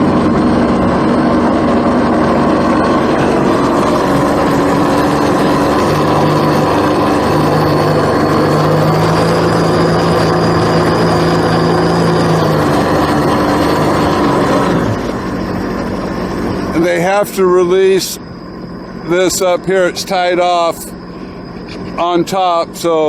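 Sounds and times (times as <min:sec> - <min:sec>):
faint high whine: 0:00.0 - 0:23.0
jet ski engines running: 0:00.0 - 0:23.0.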